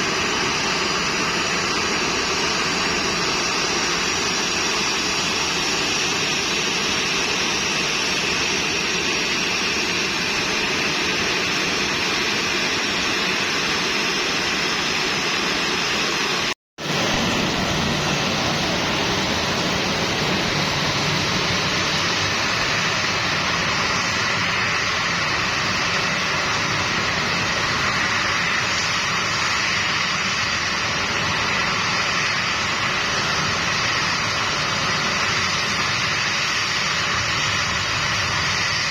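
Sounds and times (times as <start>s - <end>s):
jet engines roaring with whine: 0.0s - 38.9s.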